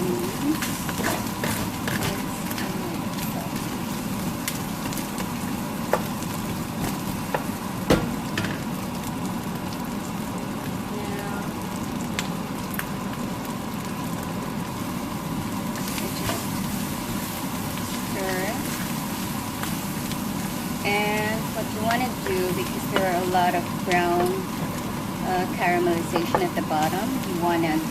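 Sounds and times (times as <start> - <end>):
meat sizzling in a frying pan: 0.0 - 27.9.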